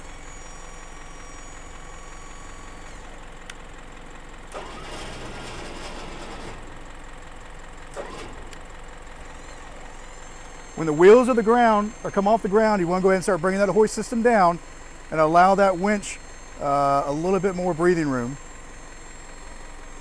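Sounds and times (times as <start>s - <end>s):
diesel truck running: 0.0s - 20.0s
hoist winching mechanical noise: 0.0s - 20.0s.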